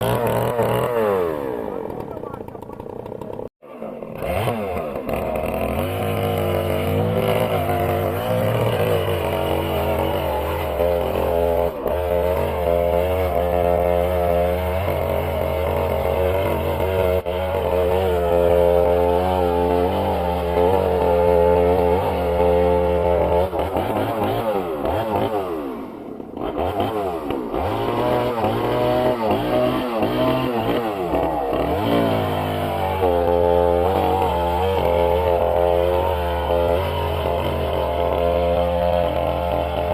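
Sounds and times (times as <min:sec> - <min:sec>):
engine running with wavering speed: 0:00.0 - 0:39.9.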